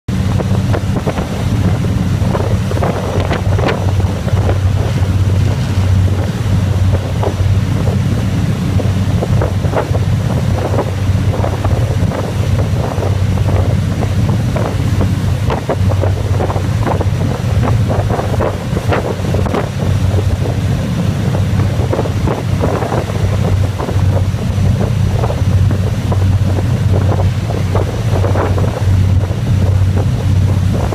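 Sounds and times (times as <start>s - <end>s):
boat engine drone: 0.1s - 30.9s
wake and spray rushing: 0.1s - 30.9s
wind buffeting microphone: 0.1s - 30.9s.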